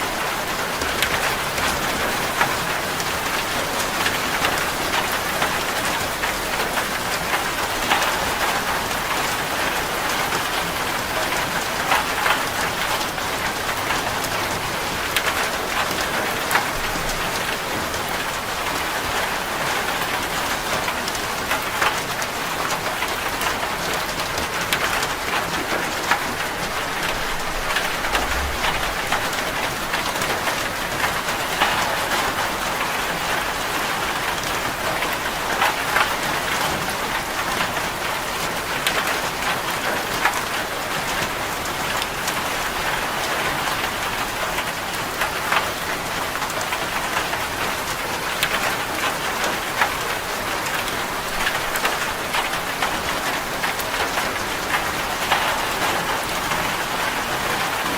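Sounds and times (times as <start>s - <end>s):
heavy rain on a metal roof: 0.0s - 57.9s.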